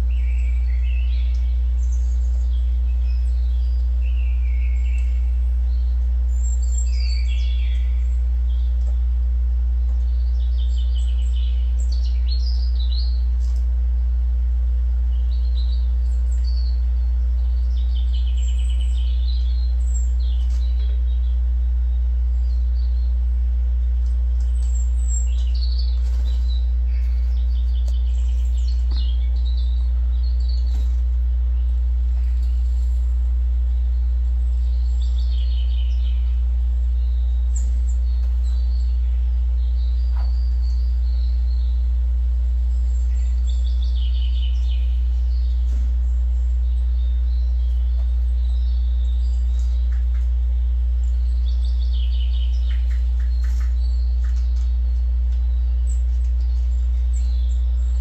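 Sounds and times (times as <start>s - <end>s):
loud steady low hum: 0.0s - 58.0s
songbirds chirping: 0.0s - 58.0s.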